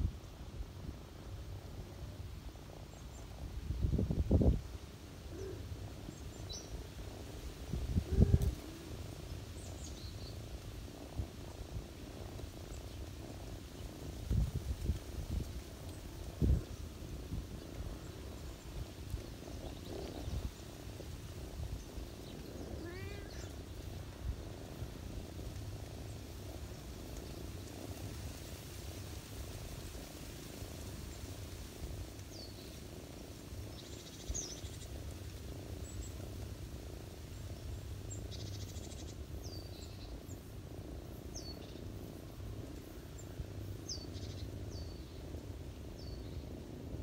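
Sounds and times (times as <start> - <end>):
cat purring: 1.2 - 47.0
small birds chirping: 1.4 - 47.0.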